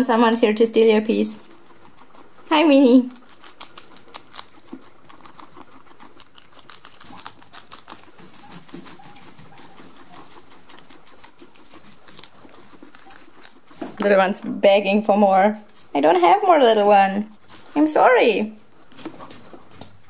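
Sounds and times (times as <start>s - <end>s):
guinea pigs chewing lettuce: 0.0s - 20.0s.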